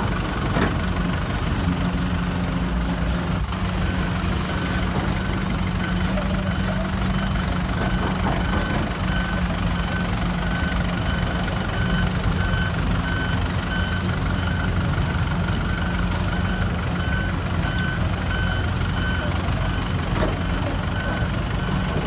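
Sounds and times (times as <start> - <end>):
heavy diesel engine running: 0.0 - 22.0
backup alarm beeping: 3.8 - 22.0.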